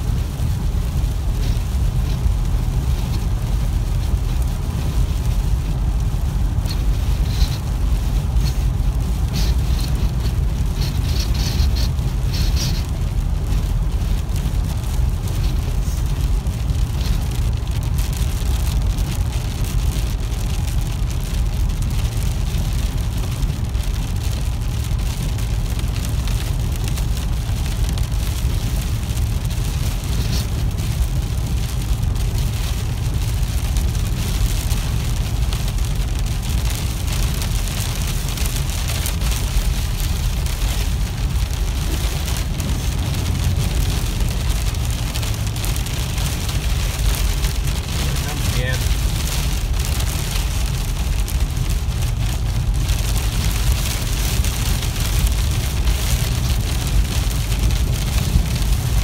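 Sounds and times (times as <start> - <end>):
rain hitting car windshield: 0.0 - 59.0
road and engine rumble: 0.0 - 59.0.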